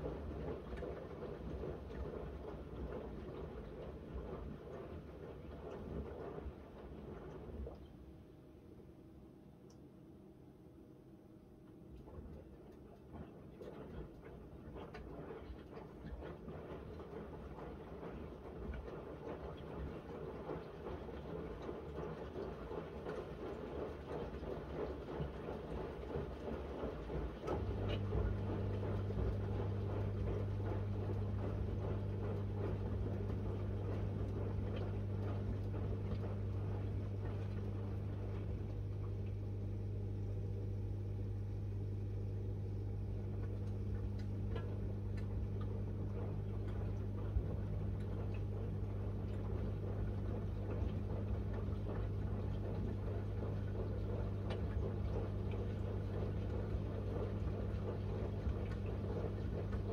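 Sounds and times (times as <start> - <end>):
water and laundry swishing: 0.0 - 8.2, 11.8 - 59.9
washing machine motor hum: 0.0 - 59.9.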